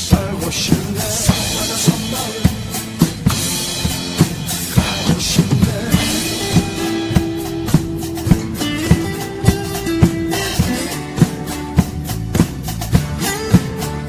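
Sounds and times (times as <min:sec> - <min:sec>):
drum kit beat: 0:00.0 - 0:14.0
recorded backing track: 0:00.0 - 0:14.0.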